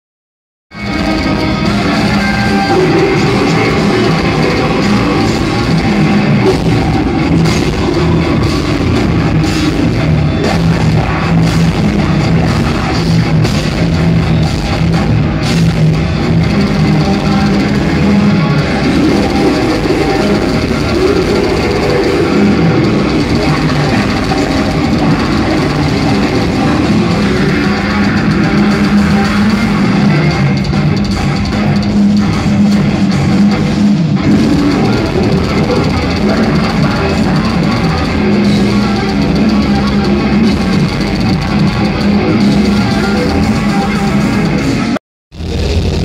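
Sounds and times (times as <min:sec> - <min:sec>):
bass guitar: 0:00.7 - 0:46.0
distorted electric guitars: 0:00.7 - 0:46.0
drum kit: 0:00.7 - 0:46.0.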